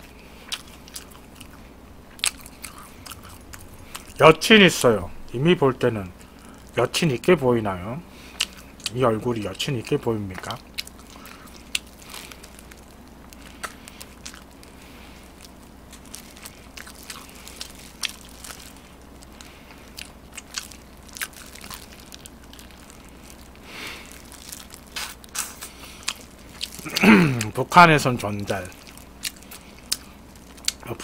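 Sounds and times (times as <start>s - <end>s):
person chewing crunchy food: 0.0s - 4.2s, 8.1s - 31.0s.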